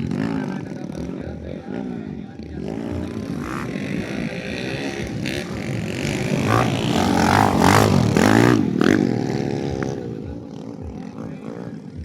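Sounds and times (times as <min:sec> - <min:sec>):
racing motorcycles revving: 0:00.0 - 0:12.0.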